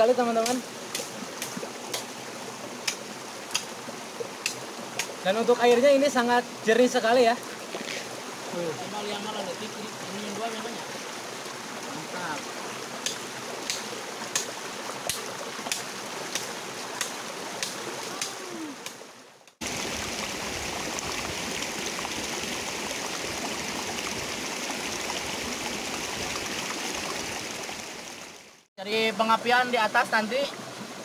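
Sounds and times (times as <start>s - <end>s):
stream running over stones: 0.0s - 31.0s.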